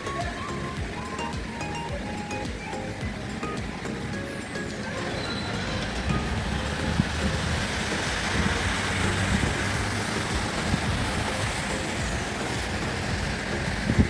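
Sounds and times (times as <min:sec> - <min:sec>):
heavy rain hissing: 0:00.0 - 0:14.0
road traffic rumble: 0:00.0 - 0:14.0.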